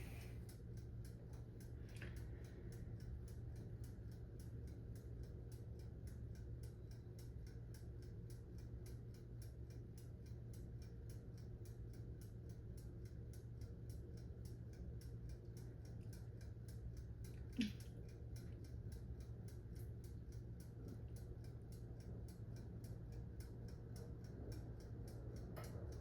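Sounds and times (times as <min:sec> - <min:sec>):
low steady hum: 0:00.0 - 0:26.0
dial timer ticking: 0:00.4 - 0:26.0.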